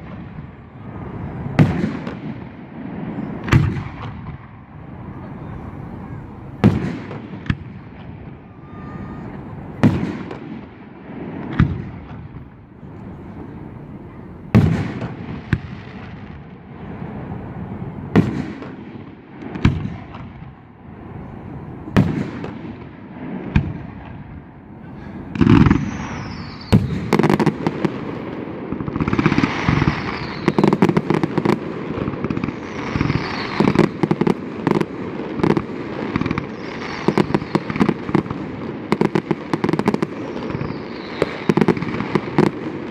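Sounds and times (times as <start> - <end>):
rapid crackling firework bursts: 0.0 - 42.9.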